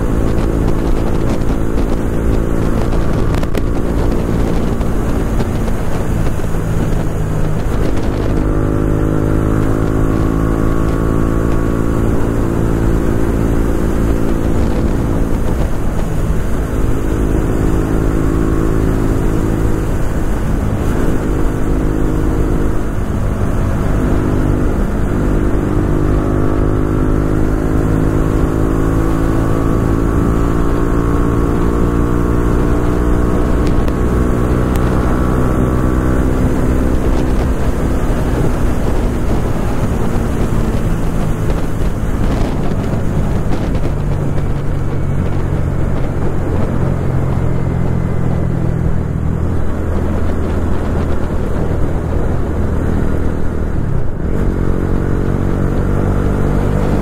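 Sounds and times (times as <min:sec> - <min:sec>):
deep rumble of road noise: 0:00.0 - 0:57.0
vehicle engine revving: 0:00.0 - 0:57.0.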